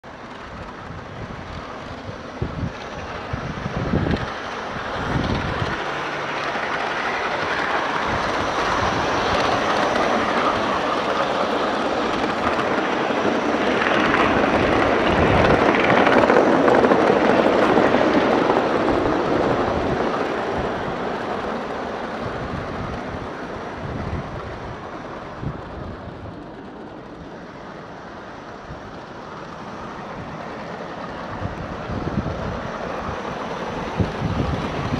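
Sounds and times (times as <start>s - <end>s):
model train wheels on track: 0.0s - 34.9s
wind gusts on microphone: 0.2s - 34.9s.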